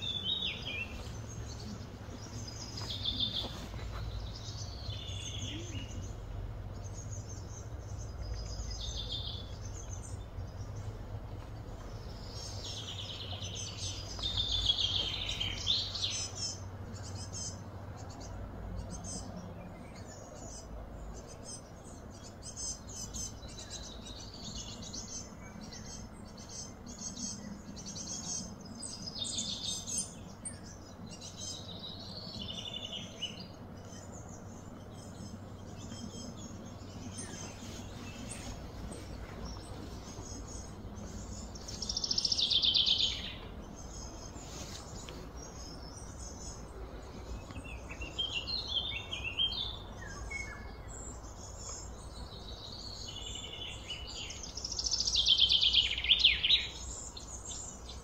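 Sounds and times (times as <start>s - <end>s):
steady low hum: 0.0s - 58.0s
wild birds chirping and singing: 0.0s - 58.0s.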